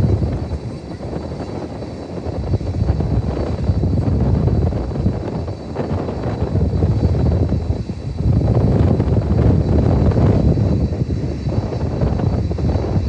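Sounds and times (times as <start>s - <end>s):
faint high whine: 0.0s - 13.0s
jet engines rumbling: 0.0s - 13.0s.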